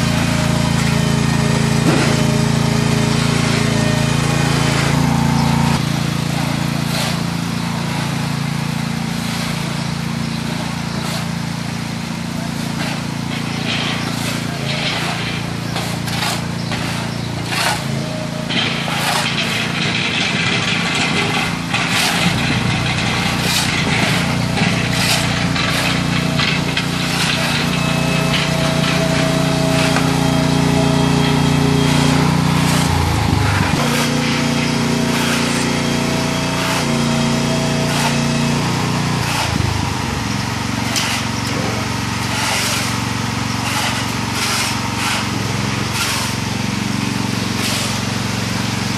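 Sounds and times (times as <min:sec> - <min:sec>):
walk-behind tractor engine running: 0:00.0 - 0:48.9
shovels scraping and knocking: 0:01.8 - 0:02.5, 0:03.2 - 0:40.0, 0:40.8 - 0:46.5, 0:47.4 - 0:48.1.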